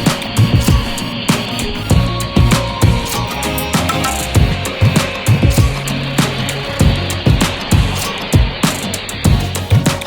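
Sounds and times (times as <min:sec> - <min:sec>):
rock music with driving drums: 0:00.0 - 0:10.0.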